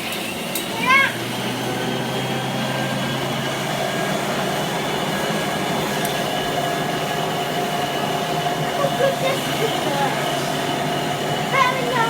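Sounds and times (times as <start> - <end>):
vacuum cleaner motor drone: 0.0 - 12.0
vacuum cleaner whine: 0.0 - 12.0.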